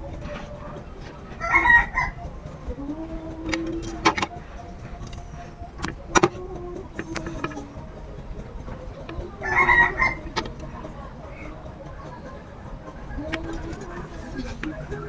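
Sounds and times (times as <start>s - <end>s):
chicken calling: 0.0s - 15.0s.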